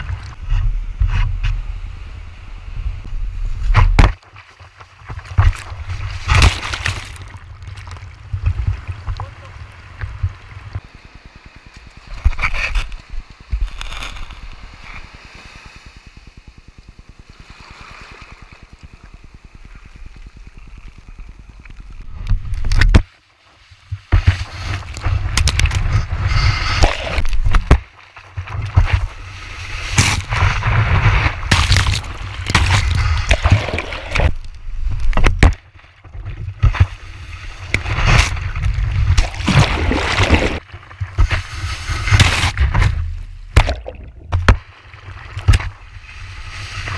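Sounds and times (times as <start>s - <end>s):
water rushing and splashing: 1.8s - 46.9s
shallow water sloshing: 3.6s - 22.9s, 23.6s - 46.9s.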